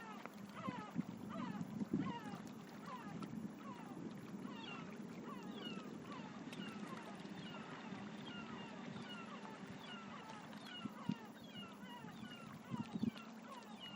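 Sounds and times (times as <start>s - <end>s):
gulls mewing calls: 0.0s - 13.9s.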